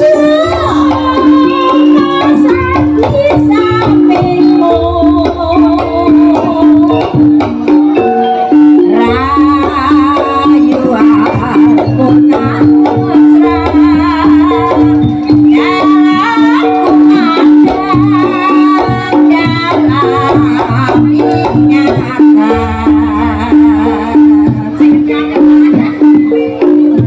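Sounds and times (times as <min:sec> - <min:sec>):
drums beating: 0:00.0 - 0:27.0
wavering melody line: 0:00.0 - 0:27.0.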